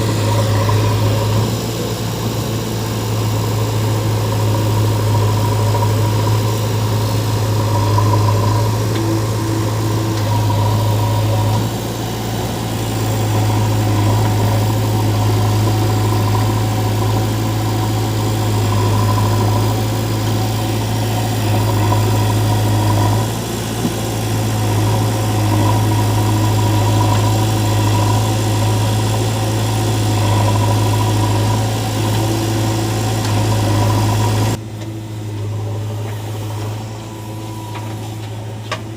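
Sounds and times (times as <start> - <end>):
heavy diesel engine idling: 0.0 - 38.9.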